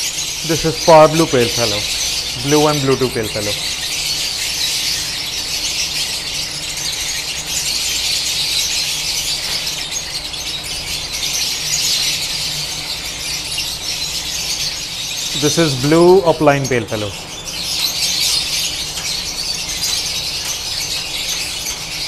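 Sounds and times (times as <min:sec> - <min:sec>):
lovebirds chattering and screeching: 0:00.0 - 0:22.0.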